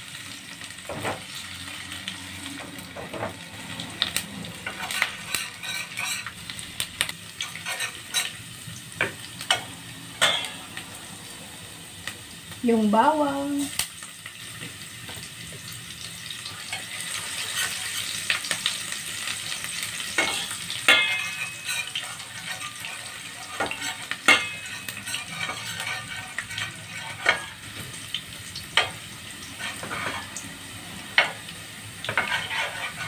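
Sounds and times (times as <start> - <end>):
garlic sizzling in hot oil: 0.0 - 33.0.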